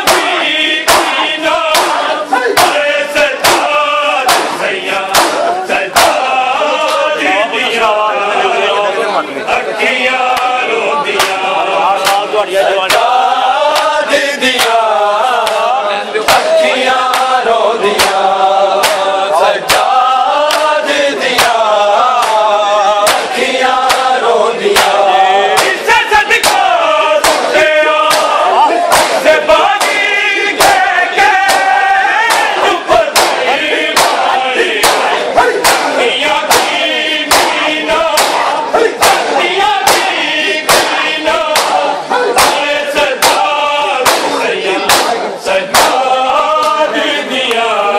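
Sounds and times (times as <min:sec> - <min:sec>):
chest-beating slaps: 0:00.0 - 0:07.1, 0:10.3 - 0:10.5, 0:11.1 - 0:11.4, 0:12.0 - 0:14.8, 0:15.4 - 0:15.7, 0:16.3 - 0:46.8
group of men's voices: 0:00.0 - 0:47.9
man chanting a lament: 0:00.0 - 0:47.9.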